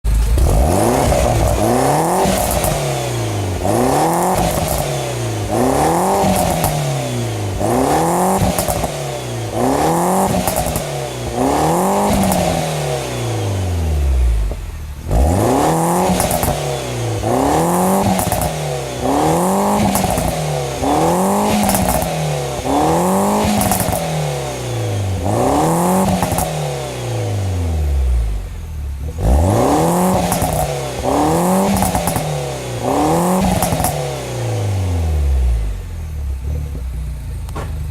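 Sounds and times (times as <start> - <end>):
car engine revving: 0.0 - 37.7.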